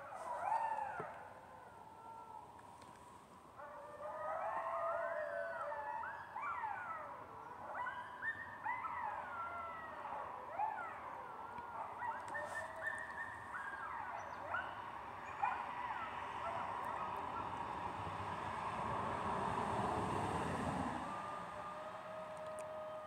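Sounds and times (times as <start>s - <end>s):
coyotes howling: 0.0s - 23.0s.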